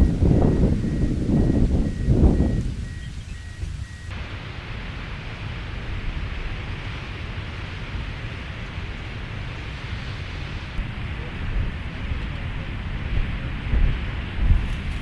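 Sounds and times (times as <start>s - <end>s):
steady outdoor rushing noise: 0.0s - 15.0s.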